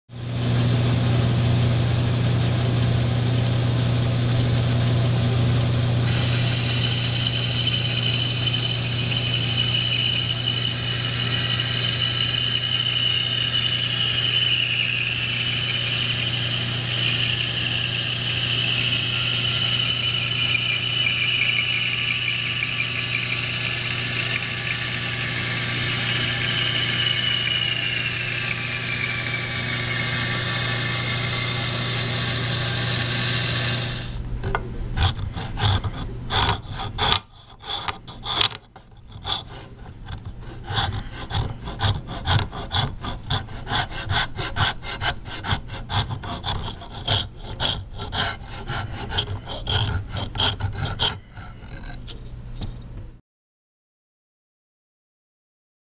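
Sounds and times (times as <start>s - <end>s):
bandsaw cutting wood: 4.8s - 34.2s, 35.0s - 52.1s
hand file scraping wood: 6.0s - 34.2s, 35.0s - 52.4s.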